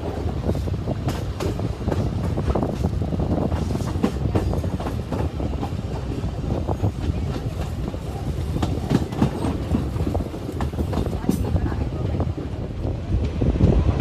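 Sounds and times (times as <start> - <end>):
wheels clicking over rail joints: 0.0 - 12.2
train rumbling: 0.0 - 14.0.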